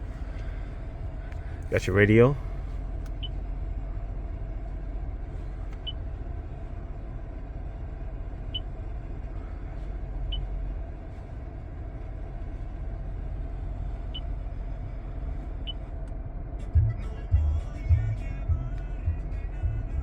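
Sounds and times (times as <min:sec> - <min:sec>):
engine idling rumble: 0:00.0 - 0:20.0.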